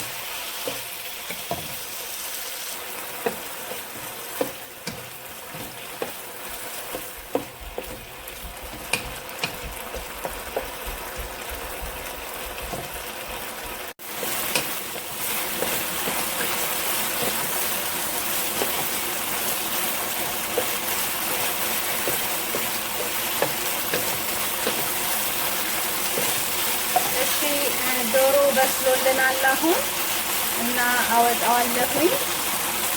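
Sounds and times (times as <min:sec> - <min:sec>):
chicken sizzling in a frying pan: 0:00.0 - 0:32.9.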